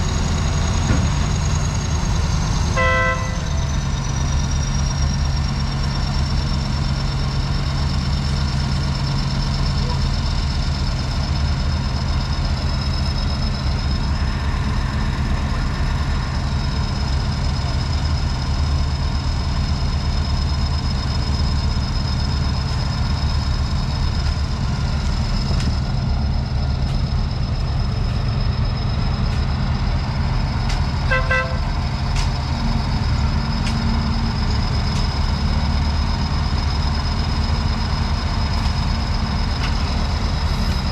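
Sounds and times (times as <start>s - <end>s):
diesel paving machine running: 0.0s - 40.9s
high-pitched whine: 0.0s - 40.9s.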